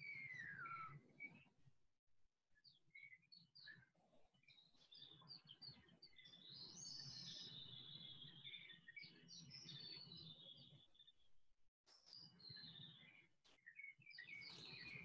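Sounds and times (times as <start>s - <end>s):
small birds chirping: 0.0s - 1.5s, 2.6s - 11.3s, 11.9s - 15.0s.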